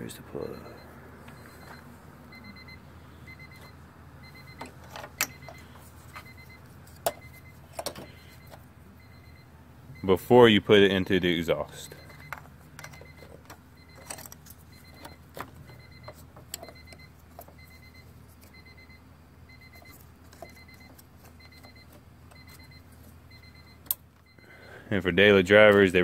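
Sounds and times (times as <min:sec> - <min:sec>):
electronic warning beeps: 0:00.0 - 0:26.0.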